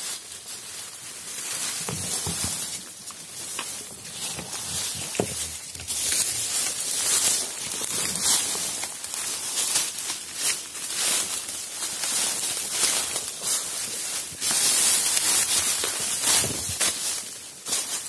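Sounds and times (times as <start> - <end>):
footsteps crunching dry leaves: 0.0 - 18.0
leaves rustling and crackling: 0.0 - 18.0.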